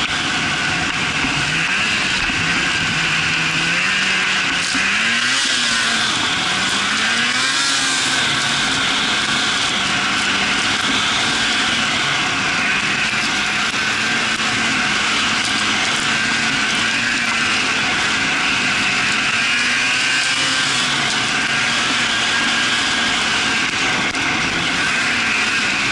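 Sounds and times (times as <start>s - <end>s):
snowmobile engine running: 0.0s - 25.9s
steady rushing noise: 0.0s - 25.9s.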